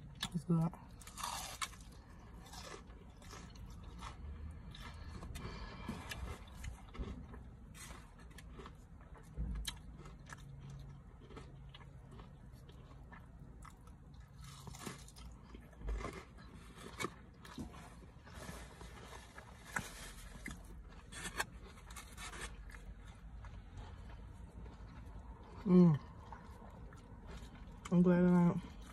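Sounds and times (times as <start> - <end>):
person biting and chewing: 0.0 - 25.4.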